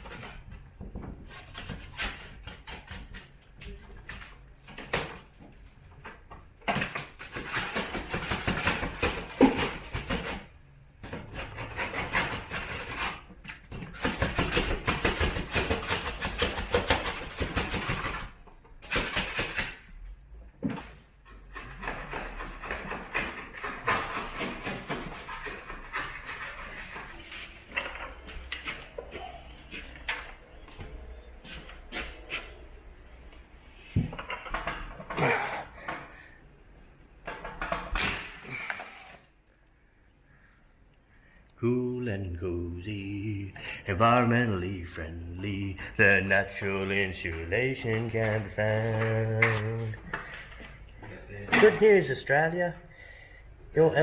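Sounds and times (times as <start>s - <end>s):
scraping and rubbing at a wall: 0.0s - 39.5s, 42.9s - 51.2s.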